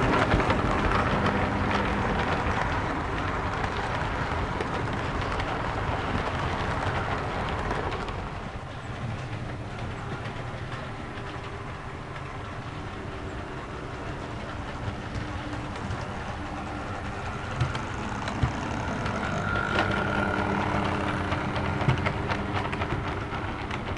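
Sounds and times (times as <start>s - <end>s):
model train running on track: 0.0s - 23.9s.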